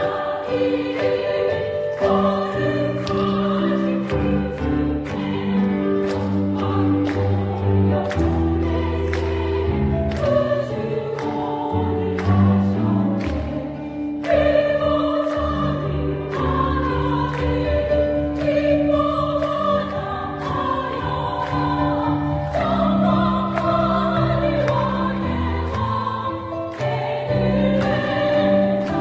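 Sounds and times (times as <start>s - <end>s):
vocal ensemble singing a hymn: 0.0s - 29.0s.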